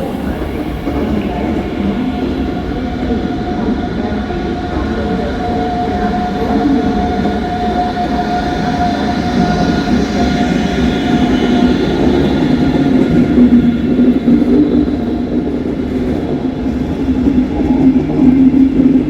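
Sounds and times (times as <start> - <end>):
high even whine: 0.0 - 15.8
train rumbling: 0.0 - 19.0.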